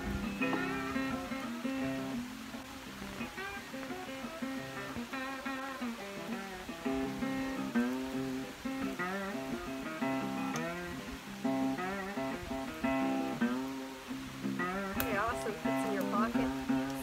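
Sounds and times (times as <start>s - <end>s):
guitar melody: 0.0s - 17.0s.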